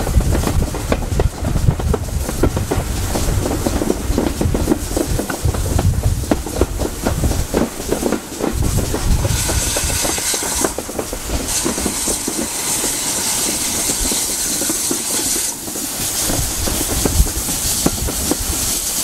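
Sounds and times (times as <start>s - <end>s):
rapid rhythmic knocks: 0.0s - 19.0s
steam locomotive hiss: 0.0s - 19.0s.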